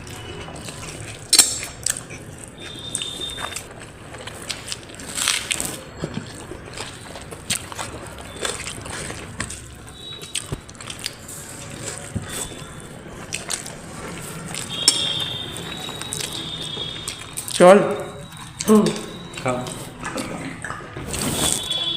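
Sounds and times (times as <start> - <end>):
person chewing: 0.0 - 21.9.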